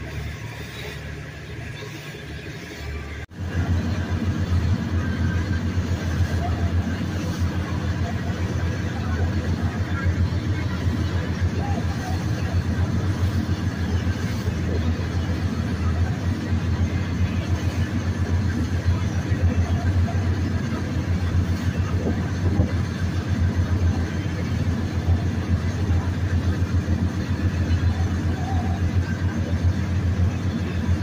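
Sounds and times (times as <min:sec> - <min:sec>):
boat engine running: 0:00.0 - 0:31.0.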